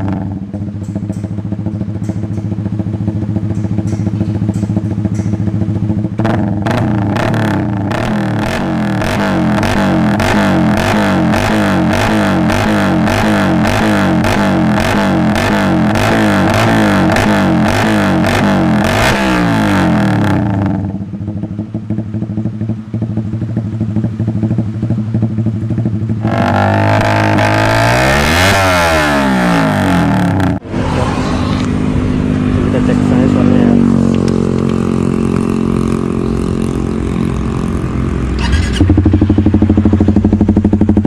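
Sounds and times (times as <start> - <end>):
motorcycle engine revving and idling: 0.0 - 41.0.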